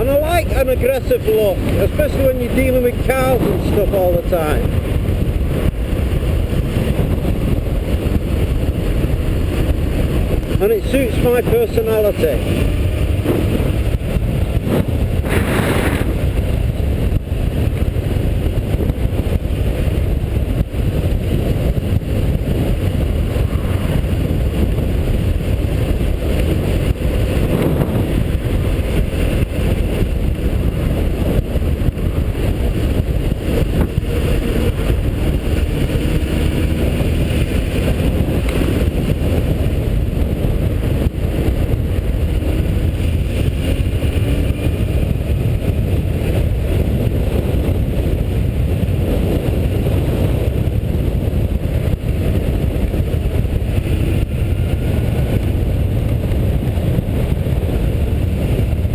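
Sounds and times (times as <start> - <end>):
motorcycle engine running: 0.0 - 58.9
wind rush on microphone: 0.0 - 58.9.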